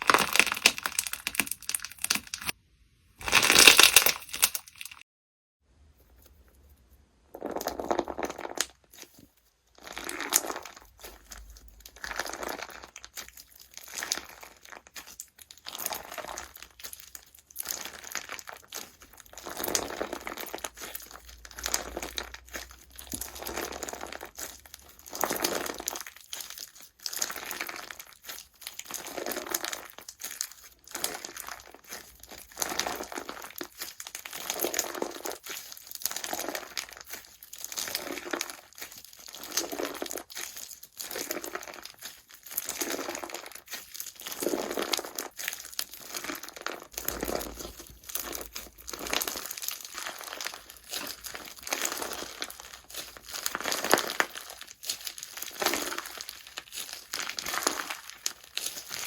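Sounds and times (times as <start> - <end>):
slime squished by hand: 0.0 - 2.6, 9.8 - 59.0.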